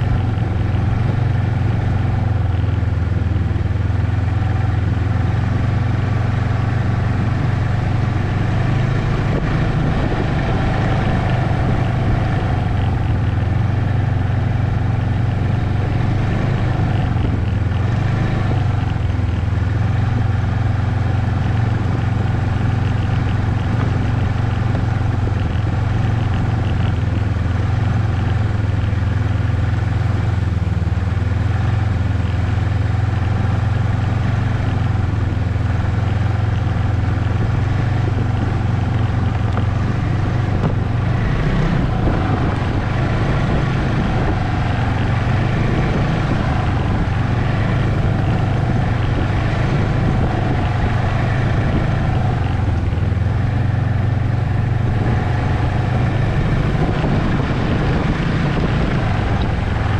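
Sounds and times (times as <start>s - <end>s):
snowmobile engine droning: 0.0s - 59.9s.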